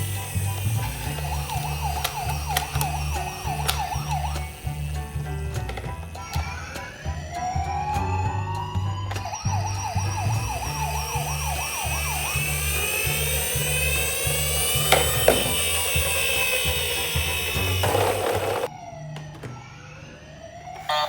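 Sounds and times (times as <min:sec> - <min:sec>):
emergency siren wailing and yelping: 0:00.0 - 0:05.5, 0:06.1 - 0:21.0
background music with steady beat: 0:00.0 - 0:18.7.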